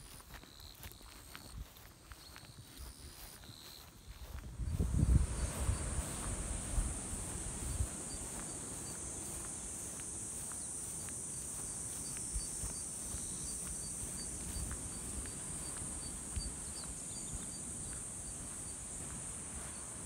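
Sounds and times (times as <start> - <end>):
insects calling: 0.0 - 20.0.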